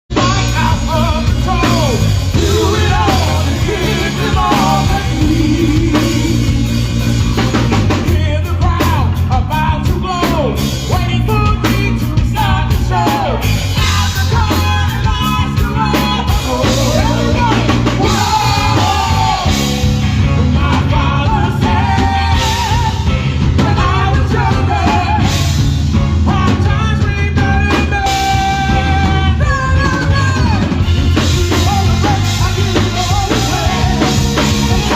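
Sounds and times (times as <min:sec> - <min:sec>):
bass notes: 0:00.0 - 0:34.9
person singing and yelling: 0:00.1 - 0:06.8, 0:07.9 - 0:34.9
drum kit: 0:00.1 - 0:34.9.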